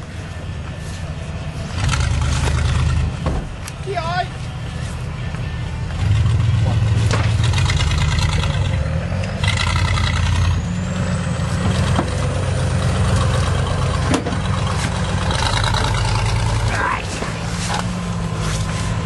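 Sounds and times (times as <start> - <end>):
off-road engines revving: 0.0 - 19.0.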